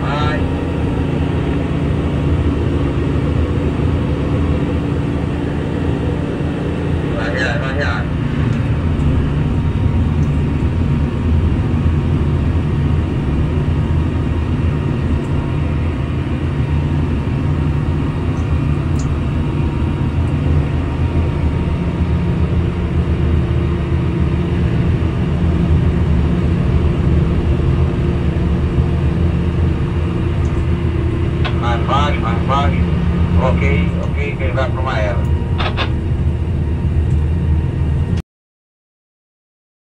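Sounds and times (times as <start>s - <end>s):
crane motor and hydraulic drone: 0.0s - 38.2s.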